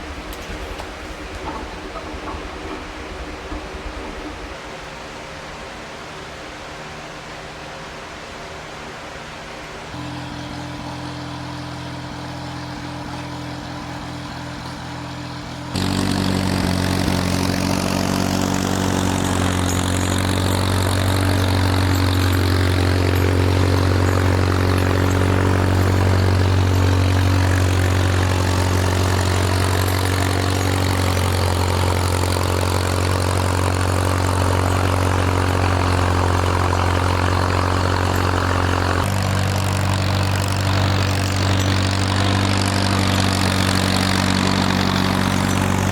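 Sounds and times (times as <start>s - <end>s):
tractor engine running: 0.0s - 4.6s, 9.9s - 45.9s.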